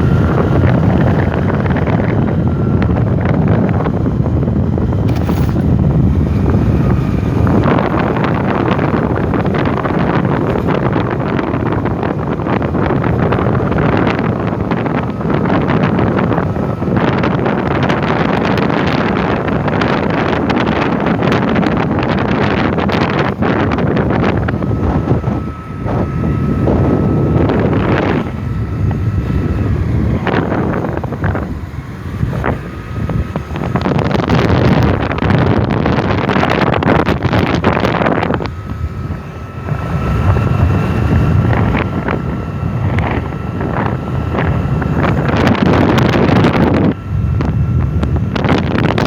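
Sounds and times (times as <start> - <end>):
faint steady whine: 0.0 - 49.0
scooter engine running: 0.0 - 49.0
wind buffeting microphone: 0.0 - 49.0.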